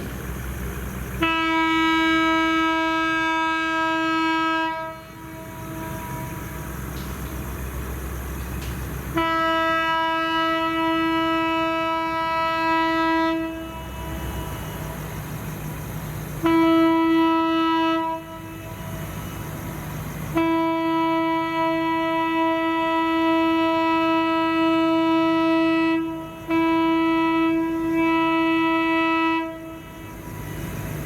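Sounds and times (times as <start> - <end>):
low diesel rumble: 0.0 - 31.0
locomotive air horn blasts: 1.1 - 31.0.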